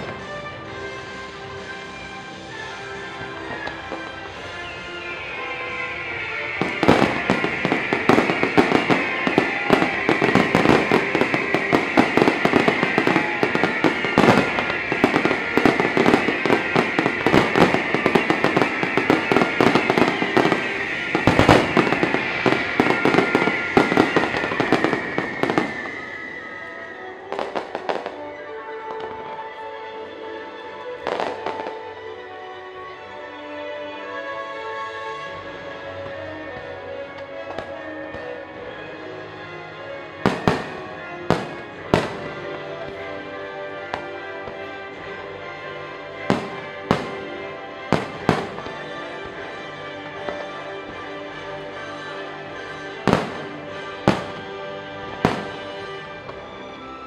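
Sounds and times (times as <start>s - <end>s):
fireworks bursts and crackle: 0.0s - 57.0s
show music: 0.0s - 57.0s.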